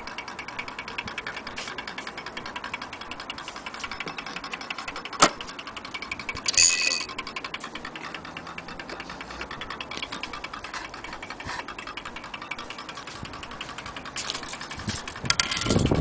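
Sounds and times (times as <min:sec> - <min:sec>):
clock ticking: 0:00.0 - 0:15.3.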